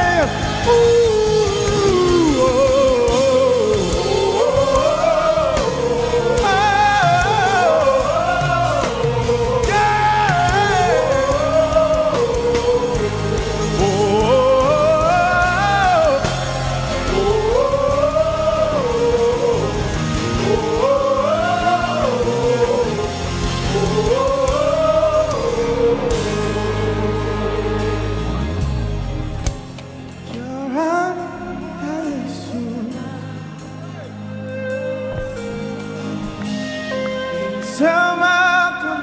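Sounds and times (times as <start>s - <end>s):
gospel worship music: 0.0s - 39.0s.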